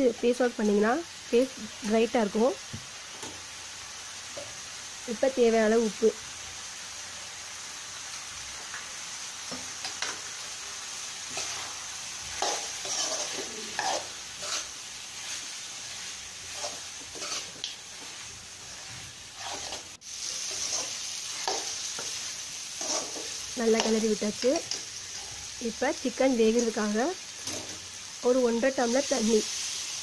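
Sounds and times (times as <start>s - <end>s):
chicken sizzling in oil: 0.0s - 30.0s.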